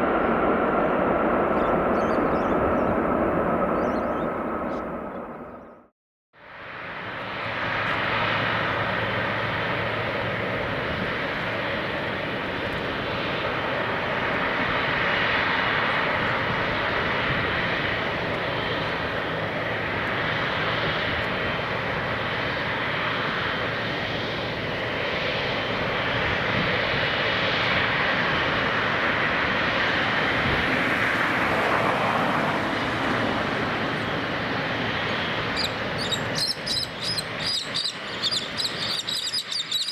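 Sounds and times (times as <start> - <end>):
jet engine rushing: 0.0 - 5.6, 6.5 - 39.9.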